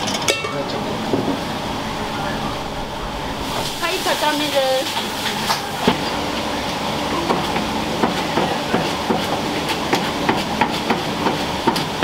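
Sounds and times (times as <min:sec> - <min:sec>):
busy kitchen noise: 0:00.0 - 0:12.0.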